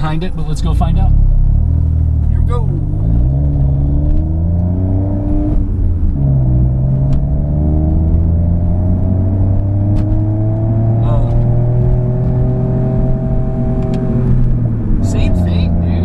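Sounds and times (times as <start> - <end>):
car engine accelerating: 0.0 - 16.0
road rumble: 0.0 - 16.0.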